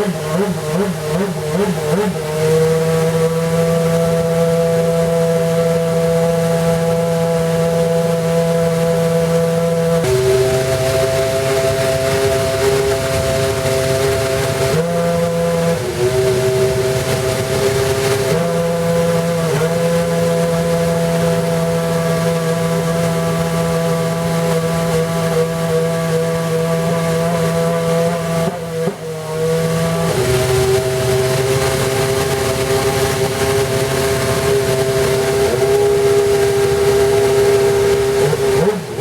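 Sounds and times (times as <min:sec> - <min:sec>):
racing car engine revving: 0:00.0 - 0:39.0.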